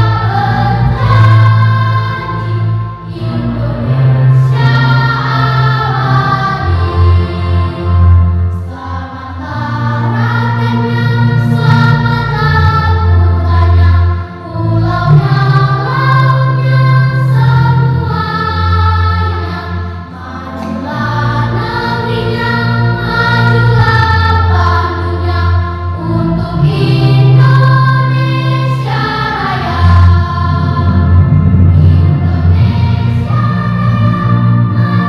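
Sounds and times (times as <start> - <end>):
children's choir singing: 0.0 - 35.0.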